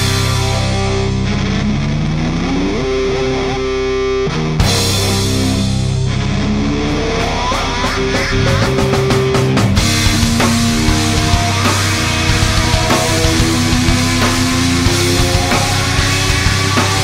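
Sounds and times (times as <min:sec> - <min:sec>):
distorted electric guitar rock music: 0:00.0 - 0:17.0.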